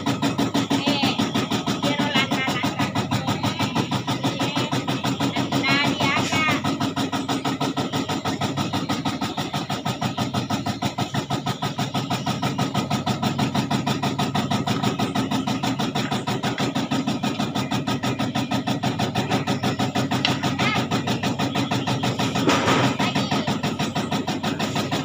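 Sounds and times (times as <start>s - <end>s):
engine running with pulsing beat: 0.0s - 25.0s.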